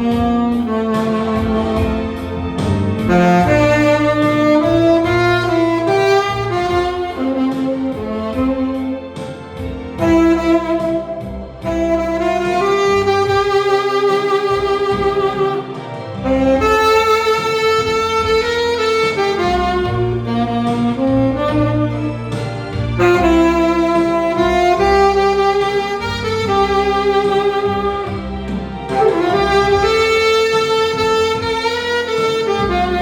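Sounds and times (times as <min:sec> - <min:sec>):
bass and strings backing: 0:00.0 - 0:33.0
tenor saxophone melody: 0:00.0 - 0:33.0.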